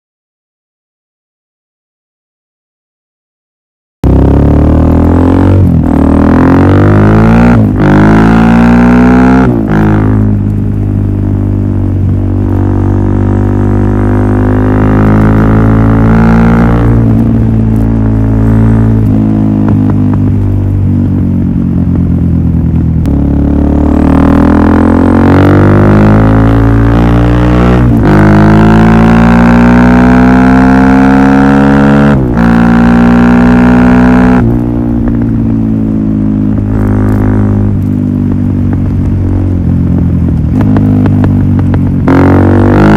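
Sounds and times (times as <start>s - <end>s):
motorcycle engine accelerating: 4.0s - 42.9s.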